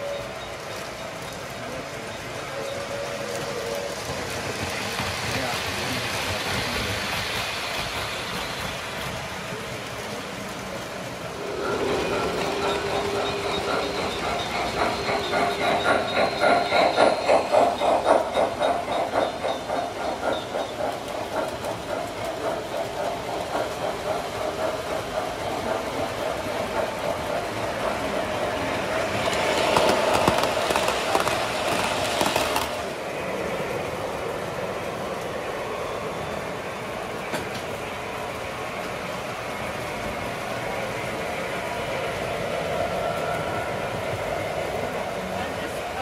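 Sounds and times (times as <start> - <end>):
model train wheels clicking: 0.0 - 46.0
rushing hiss: 2.7 - 46.0.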